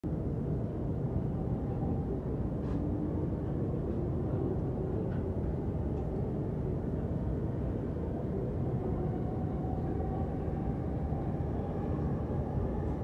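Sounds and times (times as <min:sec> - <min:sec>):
train rumble from inside car: 0:01.5 - 0:13.0.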